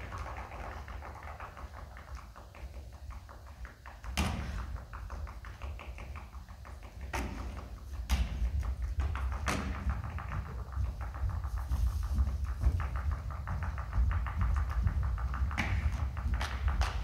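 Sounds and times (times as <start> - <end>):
fast even tapping rhythm: 0.0 - 17.0.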